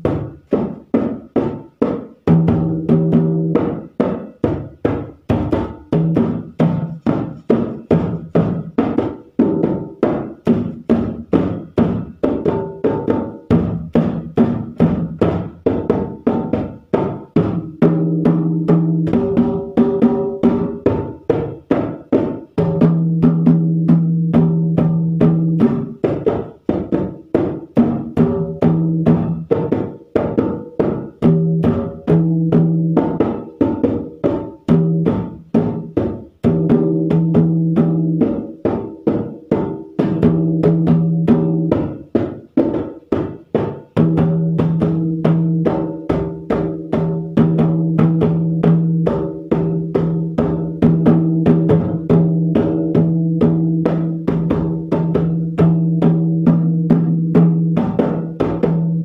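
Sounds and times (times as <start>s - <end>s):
hand drum played fast: 0.0s - 59.0s.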